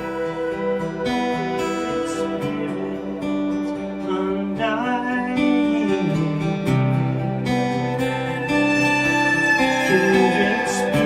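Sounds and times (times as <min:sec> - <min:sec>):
ambient guitar band music: 0:00.0 - 0:11.0.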